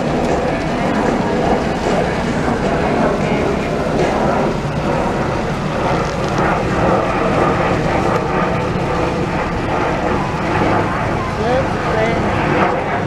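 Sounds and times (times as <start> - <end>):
boat engine drone: 0.0 - 13.0
rushing water noise: 0.0 - 13.0.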